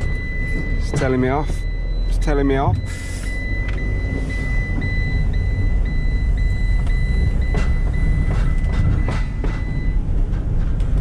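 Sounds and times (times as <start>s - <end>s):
high-pitched warning beep: 0.0s - 10.0s
van engine and tyre rumble: 0.0s - 11.0s.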